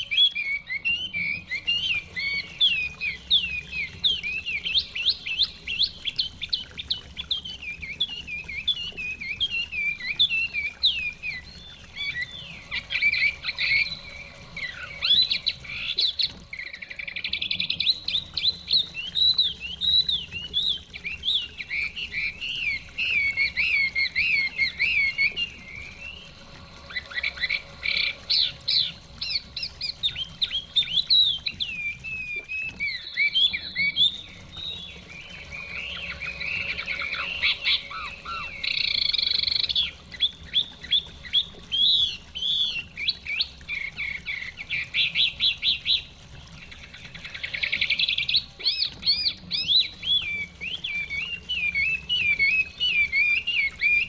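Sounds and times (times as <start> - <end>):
bird singing whistled trills: 0.0 - 46.1, 46.8 - 54.0.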